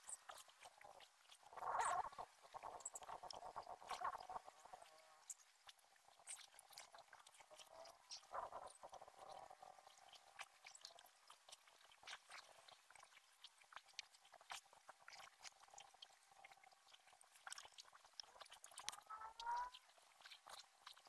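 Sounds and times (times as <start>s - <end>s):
faint clicks and ticks: 0.0s - 21.0s.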